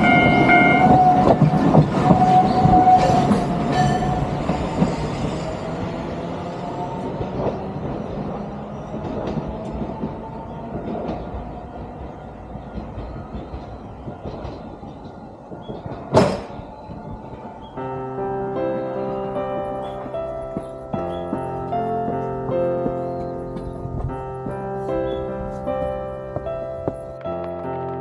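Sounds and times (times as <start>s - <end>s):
train running along track: 0.0s - 28.0s.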